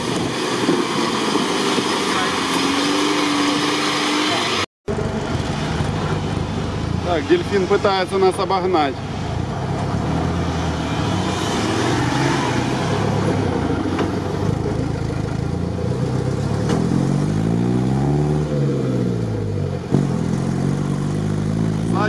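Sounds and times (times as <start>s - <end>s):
truck engine running and revving: 0.0s - 22.0s.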